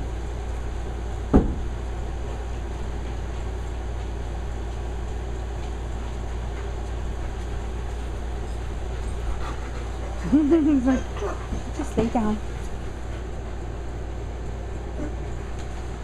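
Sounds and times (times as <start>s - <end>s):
air conditioner hum: 0.0s - 16.0s.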